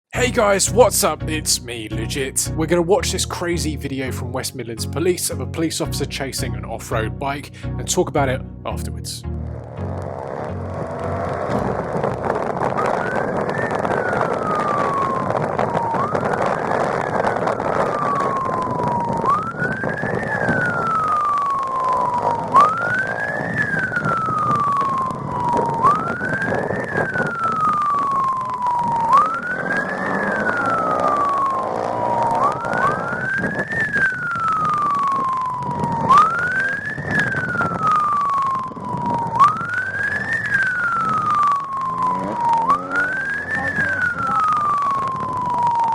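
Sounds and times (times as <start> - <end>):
vehicle noise: 0.0 - 45.9
police siren wailing: 9.0 - 45.9.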